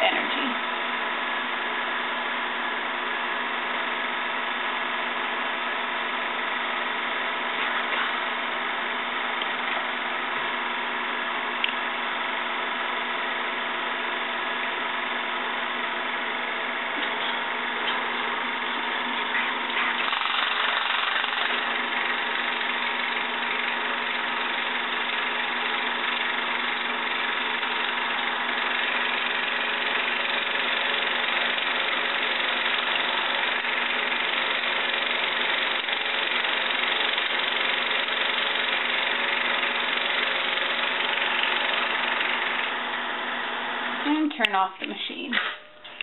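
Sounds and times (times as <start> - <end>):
film projector running: 0.0 - 46.0.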